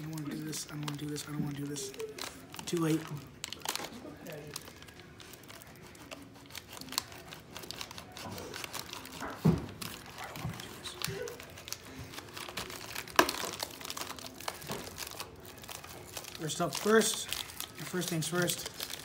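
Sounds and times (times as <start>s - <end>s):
plastic film crinkling and tearing: 0.0s - 19.0s.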